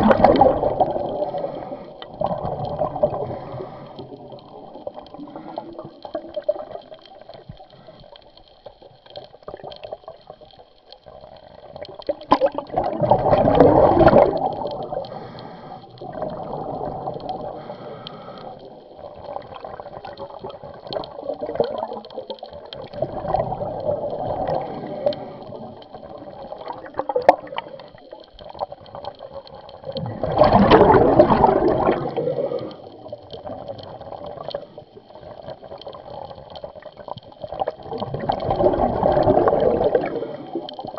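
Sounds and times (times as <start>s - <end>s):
quiet underwater gurgling: 0.0s - 40.9s
underwater bubbles gushing: 0.0s - 40.9s.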